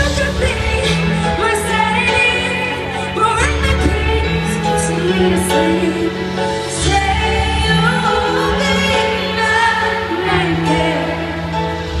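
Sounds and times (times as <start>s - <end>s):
sustained instrumental backing: 0.0s - 12.0s
woman singing pop ballad: 0.0s - 12.0s.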